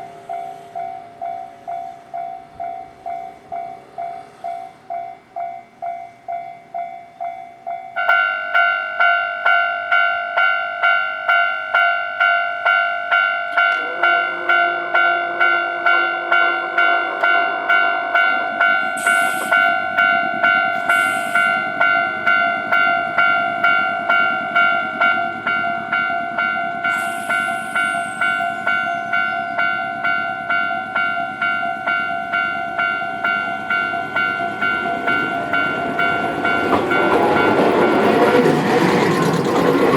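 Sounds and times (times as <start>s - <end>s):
train rumbling: 0.0s - 10.0s, 11.7s - 39.9s
level crossing alarm clanging: 0.0s - 39.9s.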